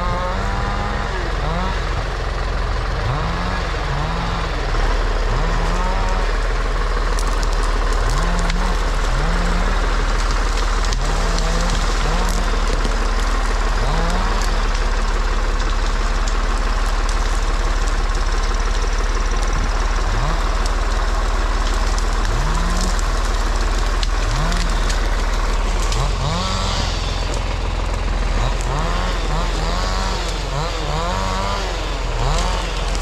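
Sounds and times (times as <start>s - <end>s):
engine revving: 0.0s - 33.0s
low engine drone: 0.0s - 33.0s.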